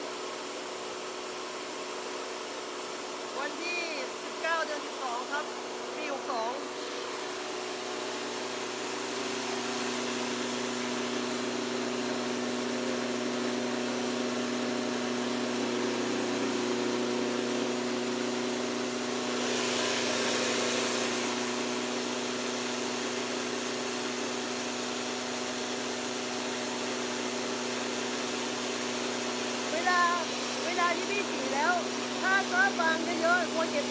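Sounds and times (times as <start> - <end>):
rice mill humming: 0.0 - 33.9.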